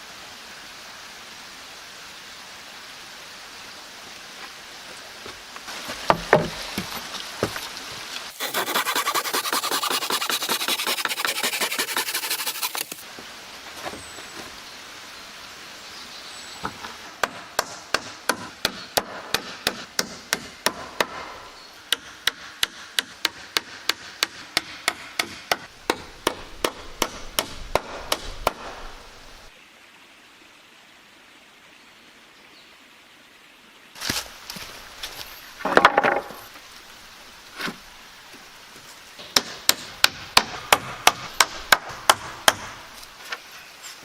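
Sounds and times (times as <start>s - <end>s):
faint steady hiss: 0.0s - 18.4s, 25.6s - 44.0s.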